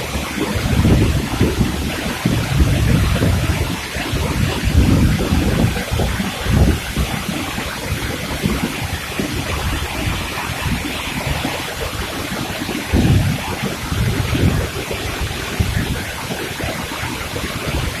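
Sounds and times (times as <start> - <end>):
waterfall rushing onto rocks: 0.0 - 18.0
wind buffeting microphone: 0.0 - 18.0.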